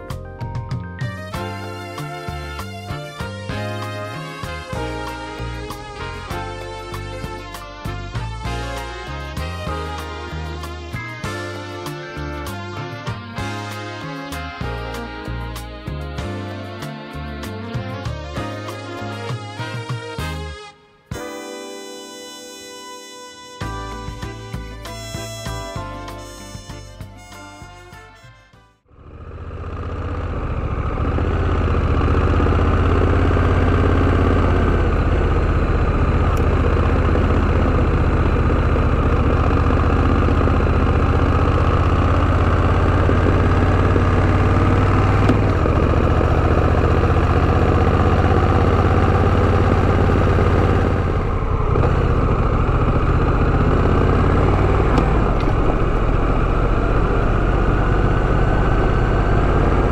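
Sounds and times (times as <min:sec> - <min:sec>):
motorcycle engine running: 0:01.1 - 0:18.6, 0:28.9 - 0:59.9.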